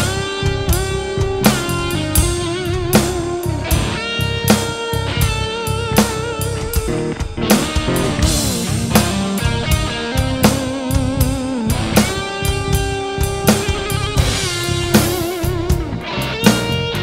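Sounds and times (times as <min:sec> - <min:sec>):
bass: 0:00.0 - 0:17.0
electric guitar bending long notes: 0:00.0 - 0:17.0
rock drumming on electronic drums: 0:00.0 - 0:17.0.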